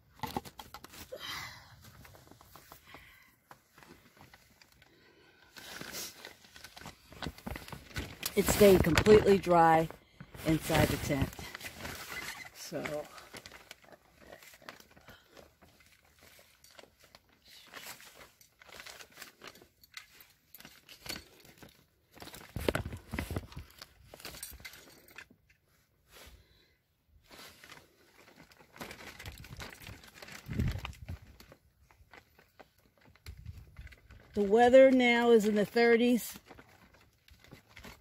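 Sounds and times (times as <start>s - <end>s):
plastic tarp rustling: 1.8s - 25.1s, 27.1s - 38.0s.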